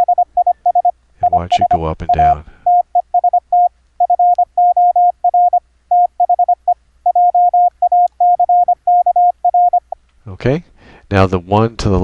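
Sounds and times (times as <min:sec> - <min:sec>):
morse code tone keyed on and off: 0:00.0 - 0:10.0.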